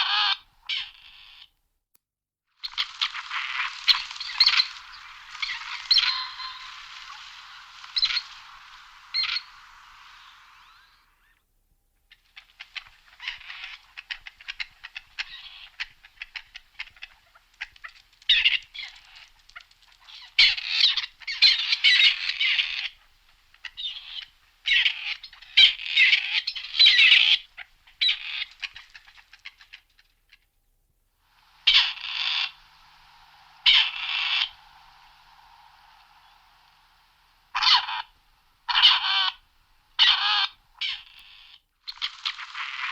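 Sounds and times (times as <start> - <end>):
partridge grating calls: 0.0 - 1.6, 2.6 - 11.4, 12.1 - 30.5, 31.2 - 42.9.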